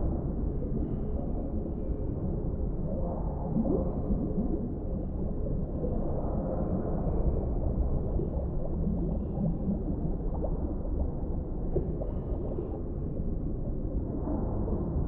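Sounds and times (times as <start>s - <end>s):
low underwater rumble: 0.0s - 15.0s
bubbling gurgles: 0.7s - 15.0s.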